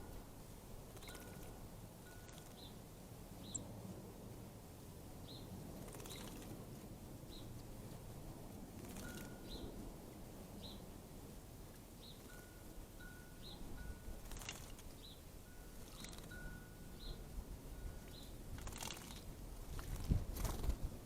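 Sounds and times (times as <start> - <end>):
faint birdsong chirps: 0.0 - 3.8, 4.8 - 6.5, 7.2 - 8.1, 8.8 - 19.4
outdoor background noise: 0.0 - 21.0.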